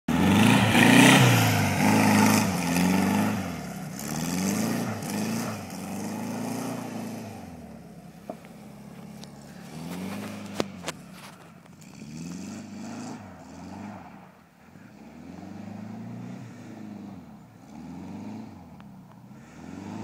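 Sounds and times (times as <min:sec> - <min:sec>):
car engine revving: 0:00.1 - 0:20.0.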